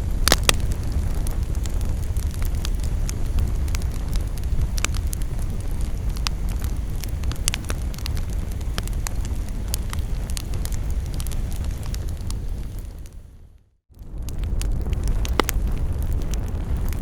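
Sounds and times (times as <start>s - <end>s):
wood crackling and popping: 0.0s - 13.3s, 14.0s - 17.0s
low rumble of flames: 0.0s - 17.0s.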